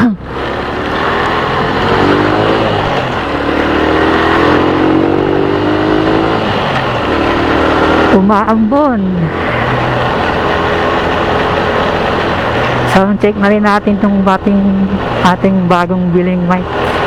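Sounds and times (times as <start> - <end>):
motorcycle engine accelerating: 0.0 - 17.0
road and wind noise: 0.0 - 17.0.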